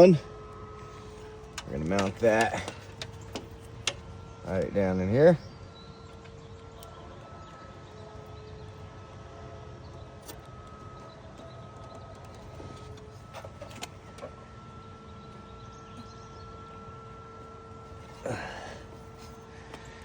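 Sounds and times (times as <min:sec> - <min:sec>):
faint outdoor background hum: 0:00.0 - 0:20.0.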